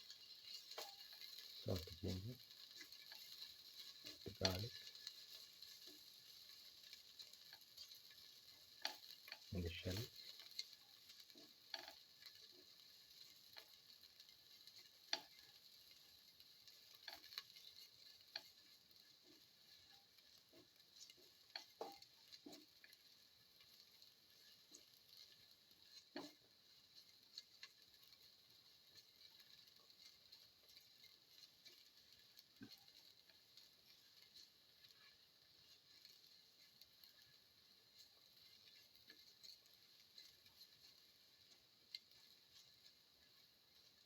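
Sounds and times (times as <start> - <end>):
faint sizzle: 0.0 - 44.0
spoon stirring vegetables in pan: 0.0 - 44.0.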